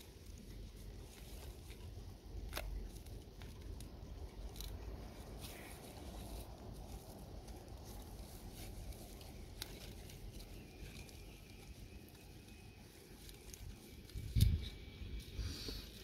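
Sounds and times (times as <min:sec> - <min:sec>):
plastic crinkling and rustling: 0:00.0 - 0:16.0
steady low rumble: 0:00.0 - 0:16.0.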